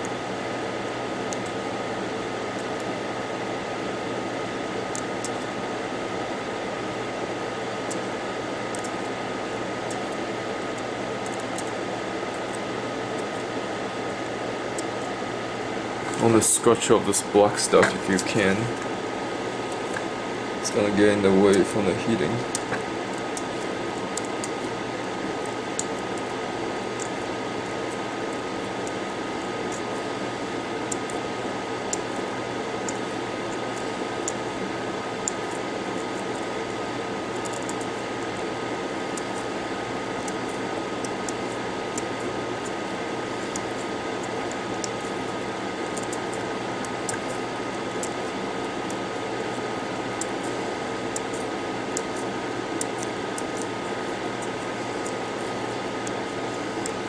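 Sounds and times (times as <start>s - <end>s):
electric fan whirring: 0.0s - 57.0s.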